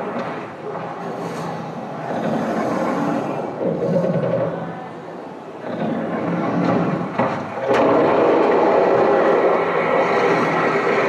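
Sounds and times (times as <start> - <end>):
dinosaur roar: 0.6 - 4.8, 5.6 - 11.0.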